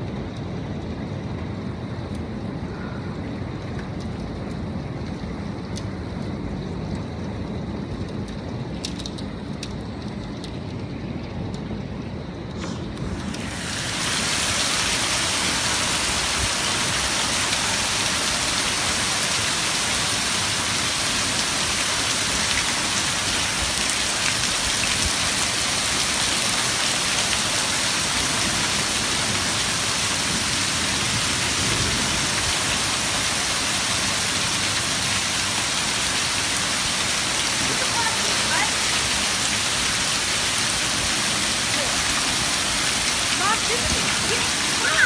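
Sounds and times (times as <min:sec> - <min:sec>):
falling and splashing water: 0:00.0 - 0:45.0.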